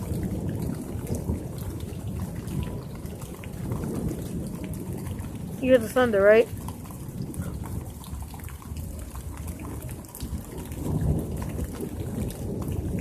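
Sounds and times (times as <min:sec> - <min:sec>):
raindrops pattering: 0:00.0 - 0:13.0
thunder rumbling: 0:00.0 - 0:13.0.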